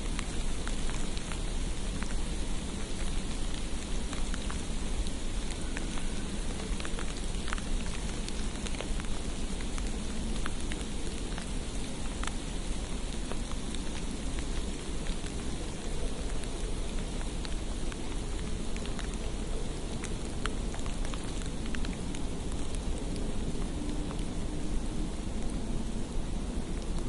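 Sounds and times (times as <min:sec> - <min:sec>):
wet snow pattering on street: 0:00.0 - 0:27.0.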